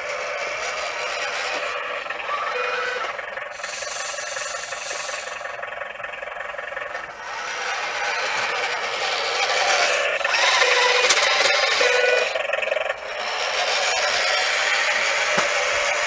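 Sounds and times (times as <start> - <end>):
plow scraping snow: 0.0 - 16.0
toy truck motor whine: 0.0 - 16.0.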